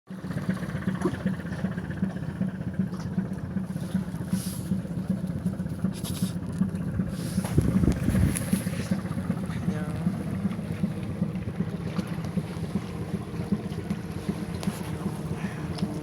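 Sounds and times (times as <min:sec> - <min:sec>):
boat engine humming: 0:00.1 - 0:16.0.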